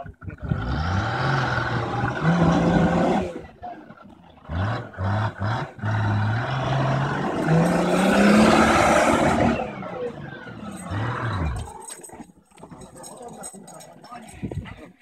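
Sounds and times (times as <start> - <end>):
off-road vehicle engine revving: 0.0 - 14.3.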